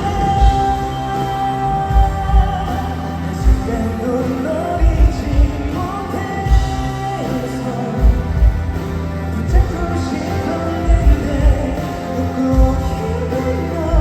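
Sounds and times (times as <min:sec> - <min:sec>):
live band playing ballad: 0:00.0 - 0:14.0.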